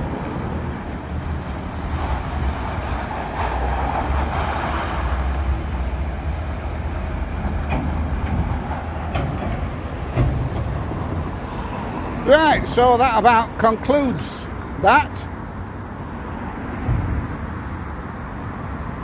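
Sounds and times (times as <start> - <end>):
low rumble of heavy vehicles: 0.0 - 19.0.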